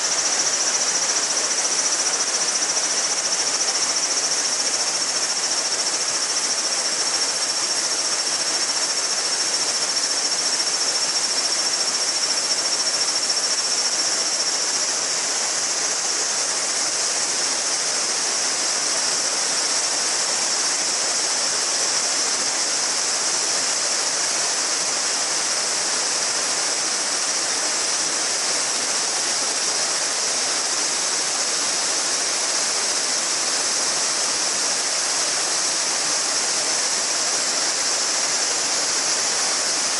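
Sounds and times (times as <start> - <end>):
cicadas singing: 0.0 - 39.9
river babbling: 0.0 - 39.9.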